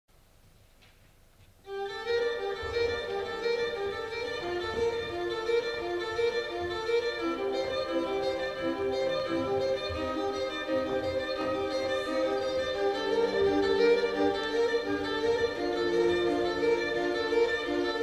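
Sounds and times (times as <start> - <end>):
violin music: 1.7 - 18.0.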